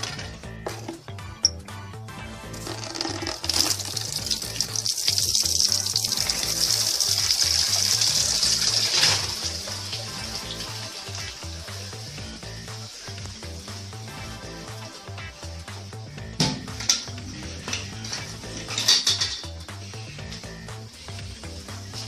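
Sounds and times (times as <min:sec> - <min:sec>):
music with repeating bass beat: 0:00.0 - 0:22.0.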